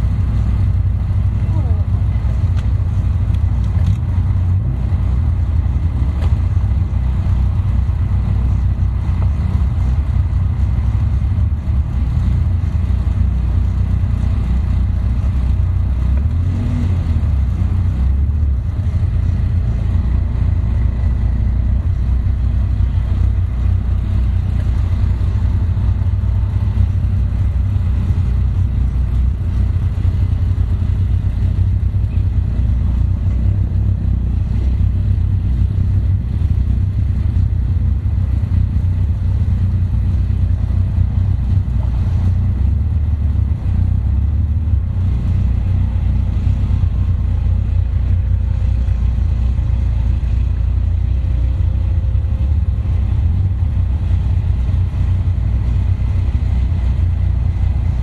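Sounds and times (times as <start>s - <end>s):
sports car engine idling: 0.0s - 58.0s.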